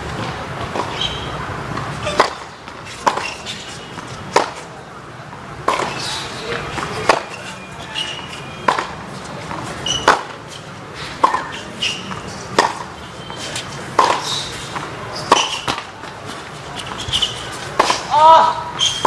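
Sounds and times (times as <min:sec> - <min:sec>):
shoes squeaking on court: 0:00.1 - 0:04.8, 0:05.6 - 0:19.0
racket hitting ball: 0:00.2 - 0:04.7, 0:05.6 - 0:10.4, 0:11.0 - 0:12.9, 0:13.5 - 0:19.0.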